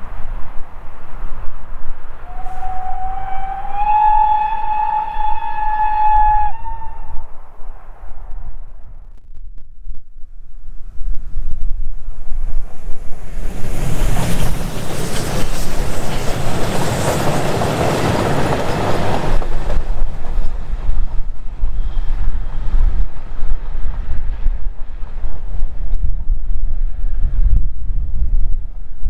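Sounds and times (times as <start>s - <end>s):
steam locomotive passing: 0.0s - 8.4s, 11.9s - 28.2s
wind buffeting microphone: 0.0s - 29.0s.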